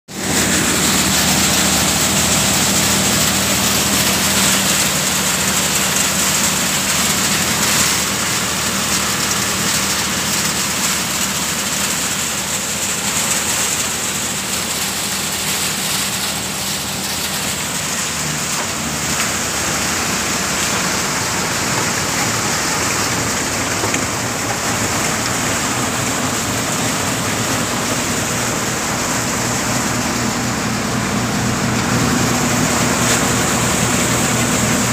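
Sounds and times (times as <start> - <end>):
thresher running: 0.1 - 34.9.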